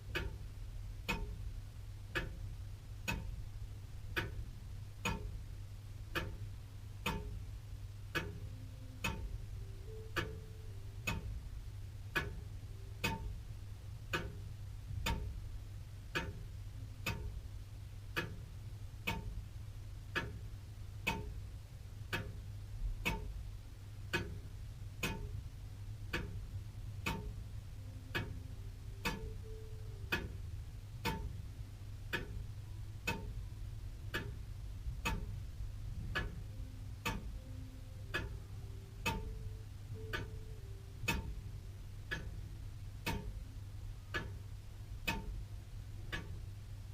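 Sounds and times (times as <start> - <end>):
clock ticking: 0.0 - 1.5, 2.1 - 3.5, 4.1 - 5.4, 6.0 - 15.4, 16.0 - 23.5, 24.1 - 46.7
faint low hum: 0.0 - 46.9.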